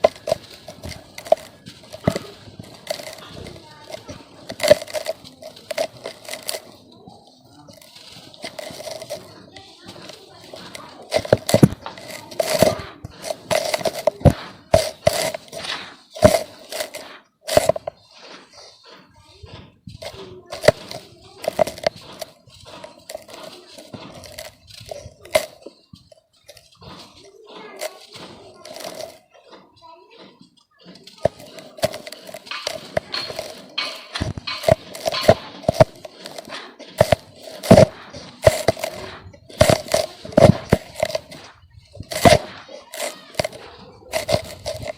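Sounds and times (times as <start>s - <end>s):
dirt lumps crunching: 0.0s - 44.9s.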